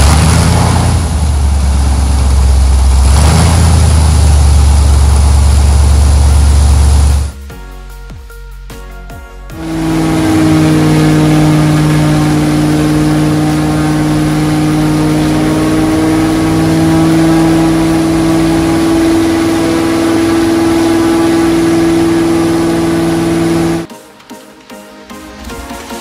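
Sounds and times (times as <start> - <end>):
propeller plane engine droning: 0.0 - 7.3, 9.6 - 23.9.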